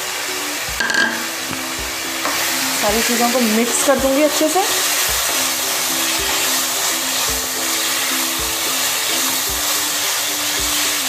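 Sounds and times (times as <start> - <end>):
background music with soft beat: 0.0 - 11.0
beans sizzling in a hot pan: 0.0 - 11.0.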